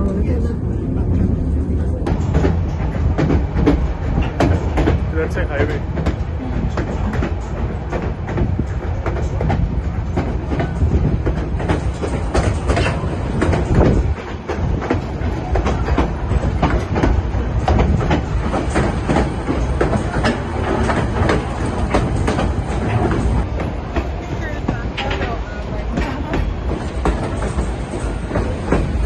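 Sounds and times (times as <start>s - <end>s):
train rumbling: 0.0s - 29.0s
wheels clicking and rattling on track: 0.0s - 29.0s.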